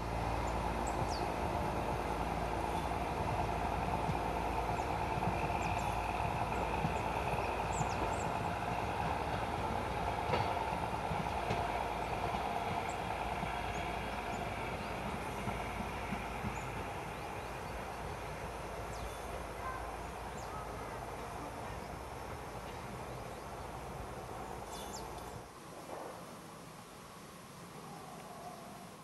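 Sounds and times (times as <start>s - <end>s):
diesel railcar pulling away: 0.0s - 25.6s.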